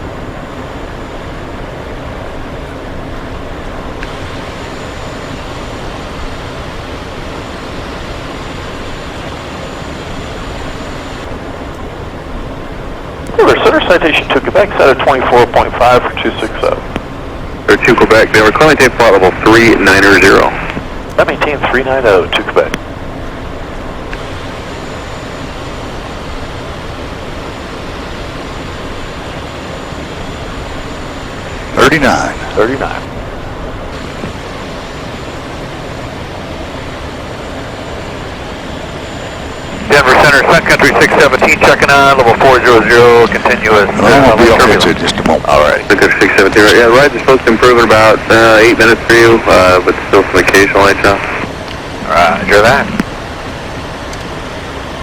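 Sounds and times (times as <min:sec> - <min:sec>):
faint high whine: 0:00.0 - 0:55.0
jet cockpit airflow and engine: 0:00.0 - 0:55.0.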